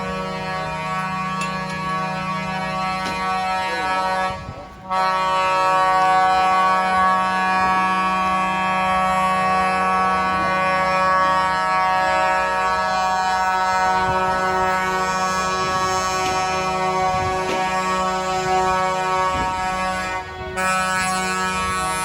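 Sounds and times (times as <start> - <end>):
truck air horn blast: 0.0 - 22.0.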